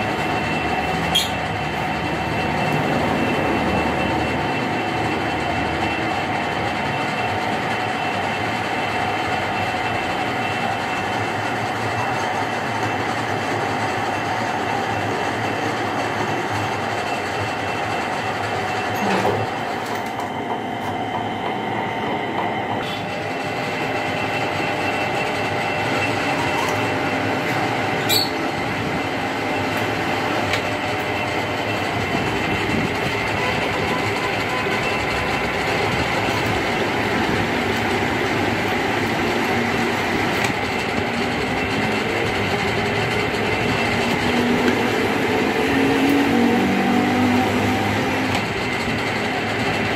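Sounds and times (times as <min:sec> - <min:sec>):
metal lathe running: 0:00.0 - 0:49.9.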